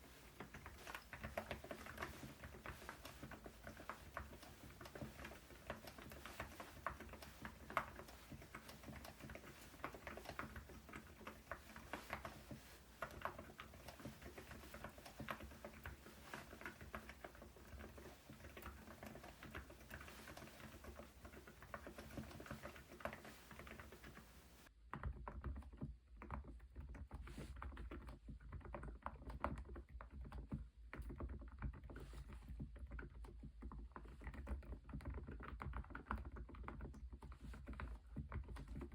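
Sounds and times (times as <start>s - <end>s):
soft muted keyboard typing: 0.0s - 38.9s.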